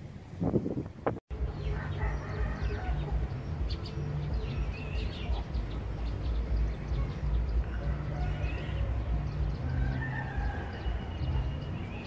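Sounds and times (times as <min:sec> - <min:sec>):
birds chirping: 0:00.8 - 0:12.0.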